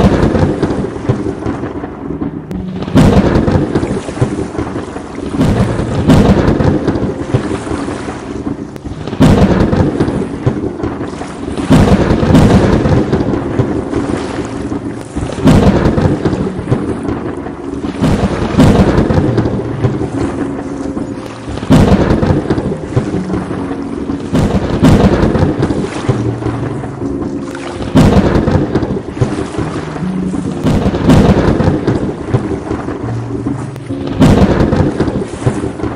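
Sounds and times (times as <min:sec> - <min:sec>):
loud thunderclaps: 0:00.0 - 0:35.9
steady rain: 0:00.0 - 0:35.9.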